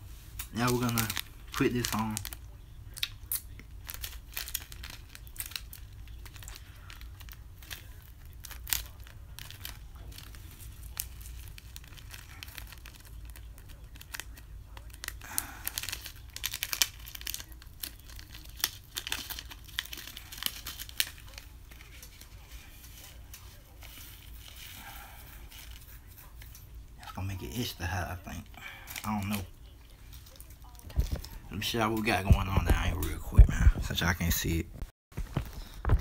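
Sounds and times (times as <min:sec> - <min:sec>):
packet crinkling and tearing: 0:00.3 - 0:34.0.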